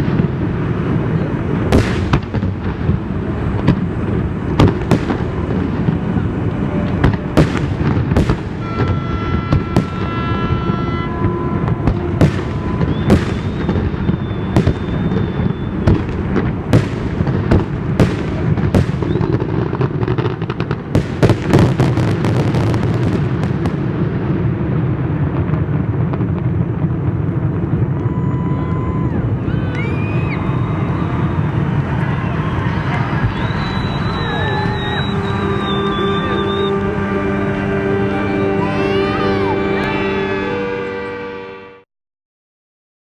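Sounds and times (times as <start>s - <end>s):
steady background noise: 0.0s - 41.5s
fireworks bangs: 0.0s - 41.7s.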